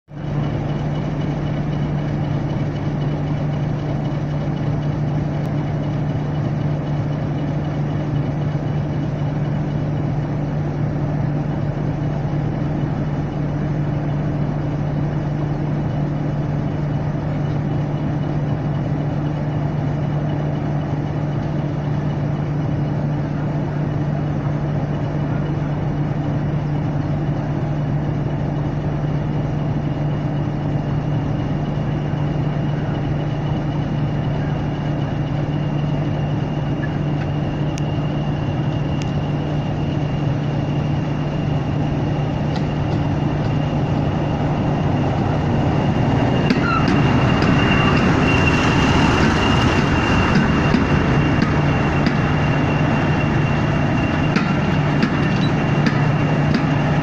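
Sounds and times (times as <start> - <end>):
diesel locomotive engine idling: 0.1 - 57.0.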